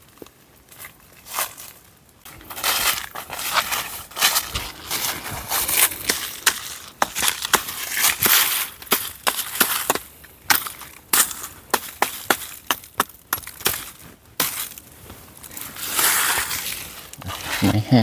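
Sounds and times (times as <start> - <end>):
dry leaves and twigs crunching: 0.0 - 18.0.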